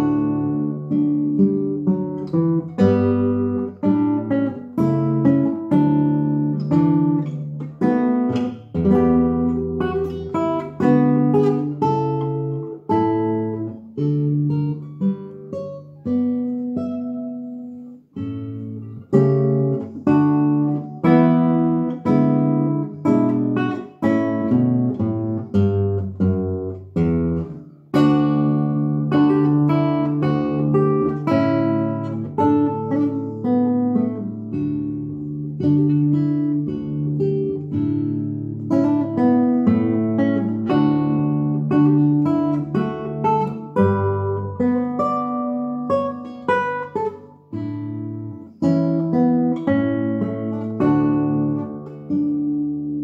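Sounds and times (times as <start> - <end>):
classical guitar playing: 0.0 - 53.0.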